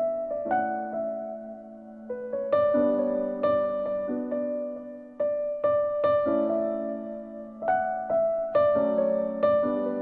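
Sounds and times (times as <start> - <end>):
slow soft piano music: 0.0 - 10.0.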